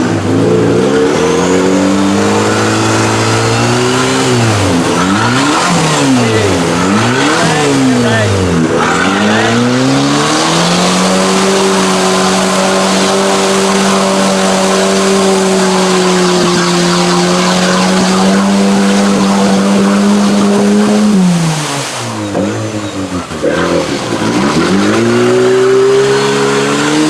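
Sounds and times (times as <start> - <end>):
engine revving: 0.0 - 27.0.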